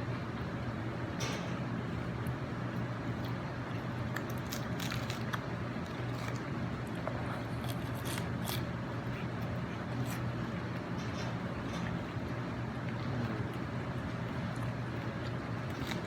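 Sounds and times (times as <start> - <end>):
steady low hum: 0.0 - 16.0
chewing and crunching food: 2.2 - 16.0.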